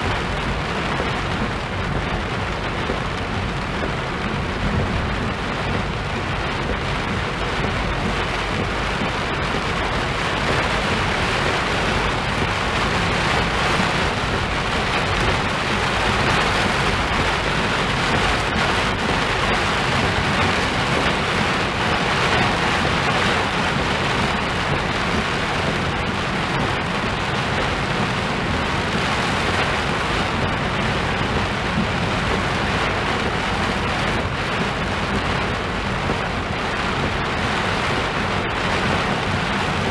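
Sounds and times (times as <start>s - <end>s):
heavy rain on car roof: 0.0s - 39.9s
low road rumble: 0.0s - 39.9s.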